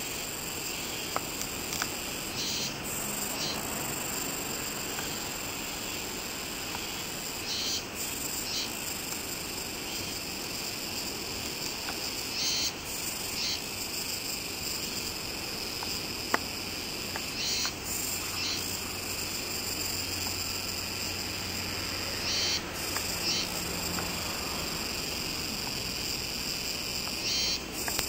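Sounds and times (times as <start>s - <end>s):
bright high insect calls: 0.0s - 28.0s
insects calling: 0.0s - 28.0s
steady rush of noise: 0.0s - 28.0s.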